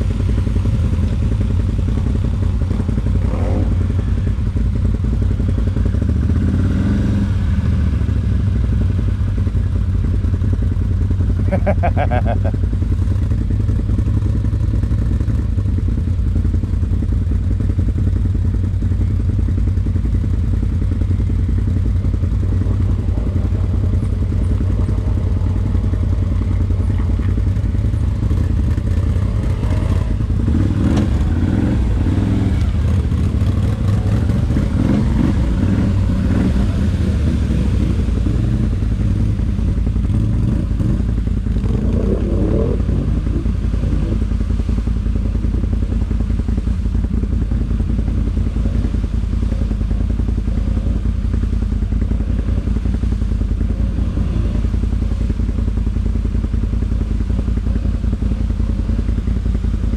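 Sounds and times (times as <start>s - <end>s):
atv engine droning: 0.0s - 59.9s.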